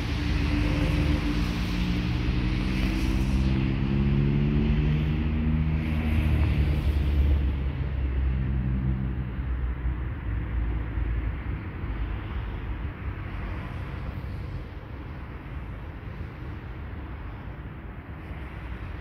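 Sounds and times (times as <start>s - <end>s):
freight train low rumble: 0.0s - 19.0s.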